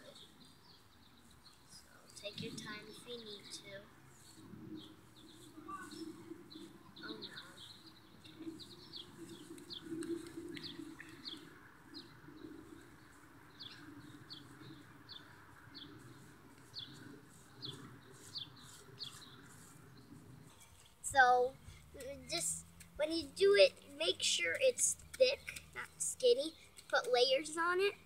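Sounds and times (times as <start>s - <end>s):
small songbirds chirping: 0.0s - 28.0s.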